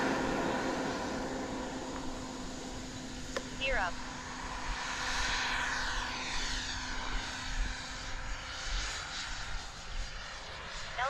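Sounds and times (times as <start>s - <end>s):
model jet whining in flight: 0.0s - 11.0s.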